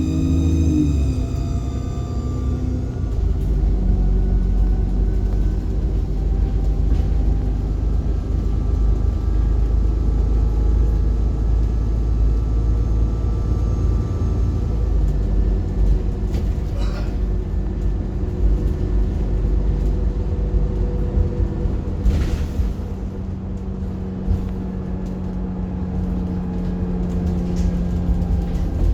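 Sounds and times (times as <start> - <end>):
bus engine and road rumble: 0.0 - 28.9.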